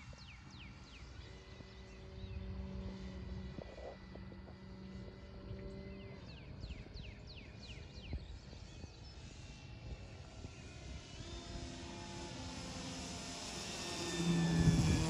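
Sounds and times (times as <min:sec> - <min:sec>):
distant model plane motor hum: 0:00.0 - 0:15.0
low wind rumble: 0:00.0 - 0:15.0.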